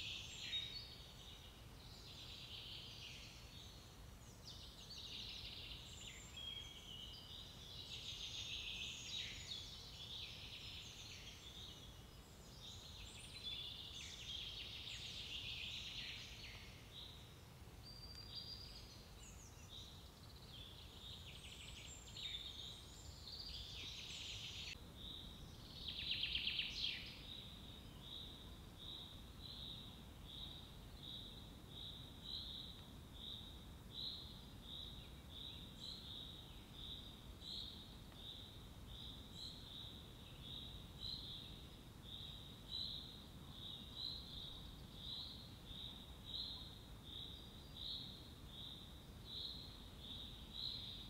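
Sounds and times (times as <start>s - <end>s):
songbirds singing: 0.0s - 51.0s.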